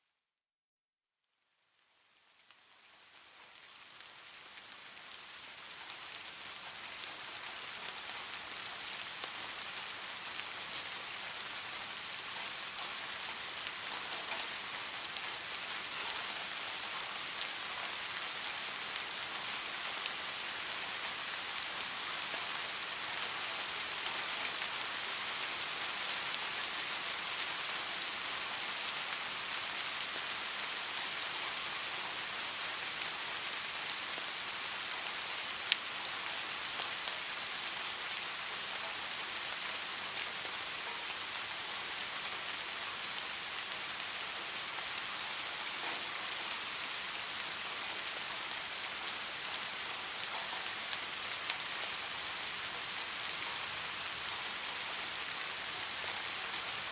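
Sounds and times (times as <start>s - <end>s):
steady rain falling: 1.2s - 56.9s.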